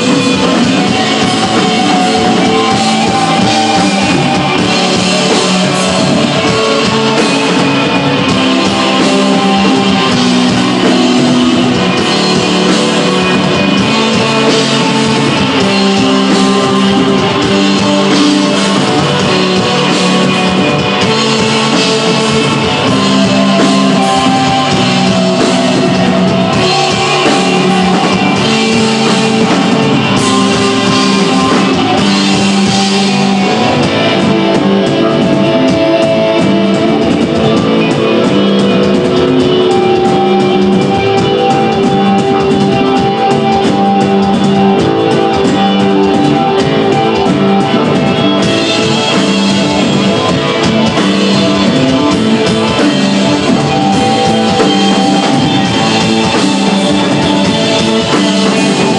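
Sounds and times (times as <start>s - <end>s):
bass: 0.0s - 58.9s
drum kit: 0.0s - 58.9s
electric guitar: 0.0s - 58.9s.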